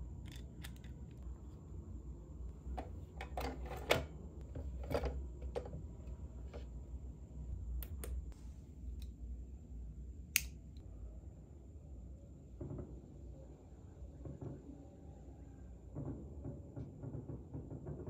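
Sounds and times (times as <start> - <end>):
low steady hum: 0.0 - 16.6.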